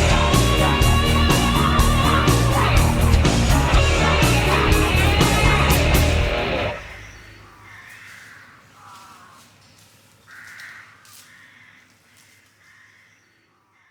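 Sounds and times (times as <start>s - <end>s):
crow cawing: 0.0s - 13.9s.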